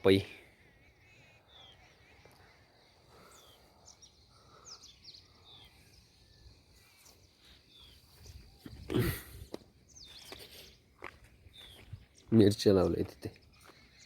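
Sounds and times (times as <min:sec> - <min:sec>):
faint high bird chirps: 0:00.0 - 0:14.0.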